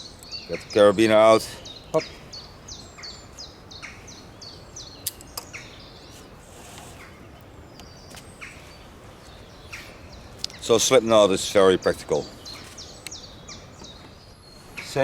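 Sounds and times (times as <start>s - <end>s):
bird calling: 0.0s - 15.0s
outdoor background noise: 0.0s - 15.0s.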